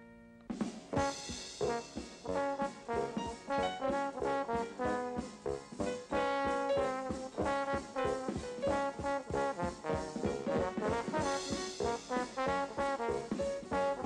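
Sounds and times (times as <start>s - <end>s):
quick melody over steady beat: 0.5s - 14.0s.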